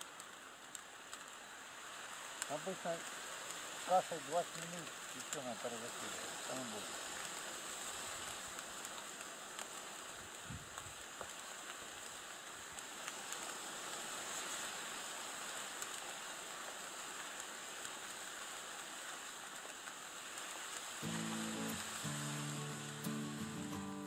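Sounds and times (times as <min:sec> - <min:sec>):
light rain falling on a pond: 0:00.0 - 0:24.0.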